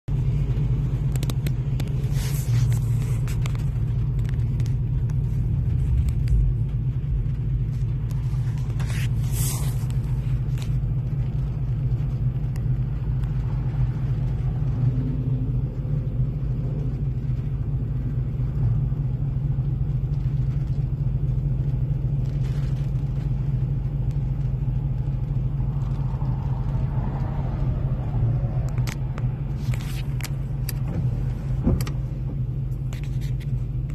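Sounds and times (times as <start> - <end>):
car interior rumble: 0.0 - 33.9.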